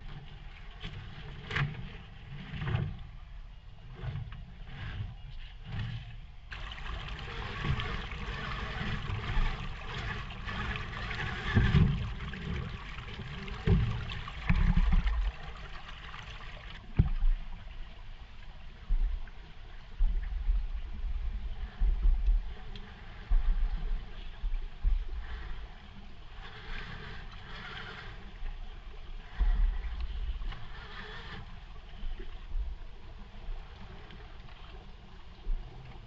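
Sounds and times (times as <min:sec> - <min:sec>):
water splashing and gurgling: 0:00.0 - 0:36.0.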